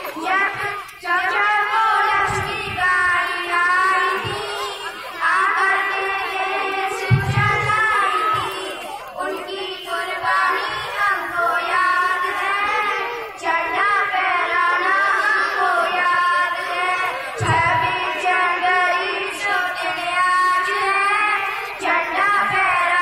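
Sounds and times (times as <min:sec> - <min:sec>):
children singing: 0:00.0 - 0:23.0.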